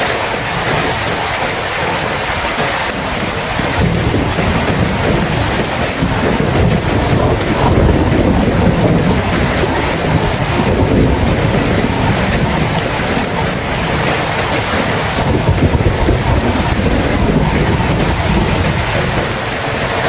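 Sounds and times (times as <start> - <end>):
steady rain: 0.0 - 20.0
low rumble of thunder: 2.9 - 20.0.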